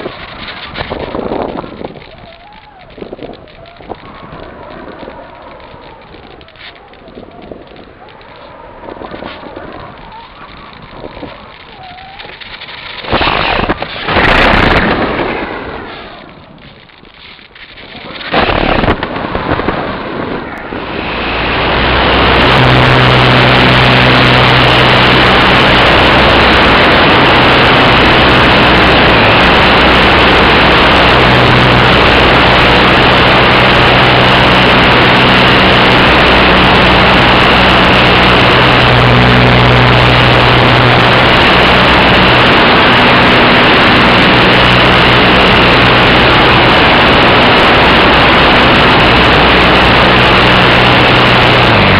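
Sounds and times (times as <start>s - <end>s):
air rushing over microphone: 0.0s - 51.9s
low motor hum: 0.0s - 51.9s.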